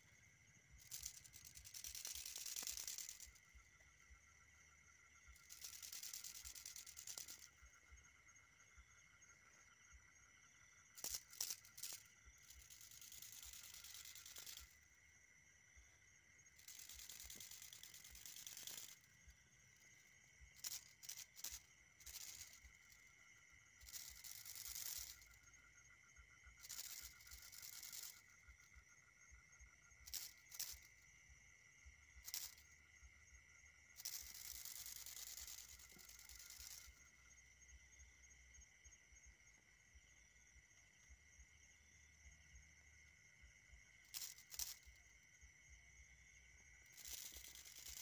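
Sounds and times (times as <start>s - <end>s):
night insects chirring: 0.0s - 48.0s.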